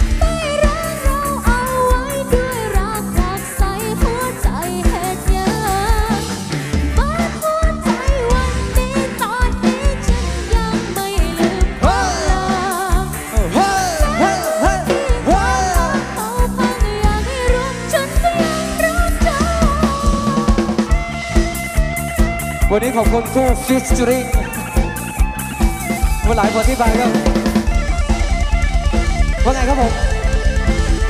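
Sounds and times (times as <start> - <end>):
drum and bass beat: 0.0 - 31.0
vibrato melodic lead: 0.0 - 31.0.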